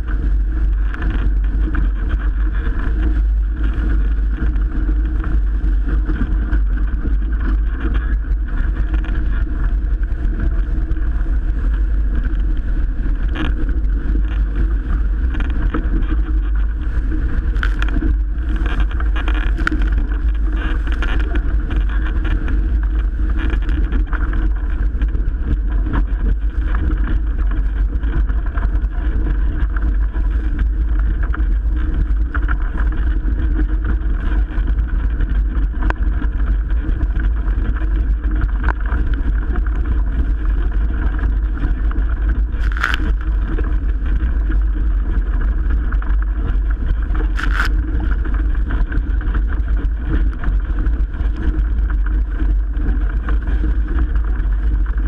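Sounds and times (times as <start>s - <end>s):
water rushing along hull: 0.0s - 55.0s
wind rumbling on microphone: 0.0s - 55.0s.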